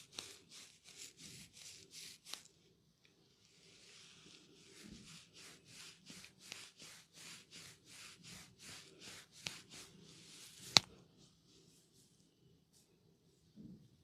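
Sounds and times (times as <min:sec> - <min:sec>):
hands rubbing hair: 0:00.0 - 0:02.5, 0:03.5 - 0:12.9.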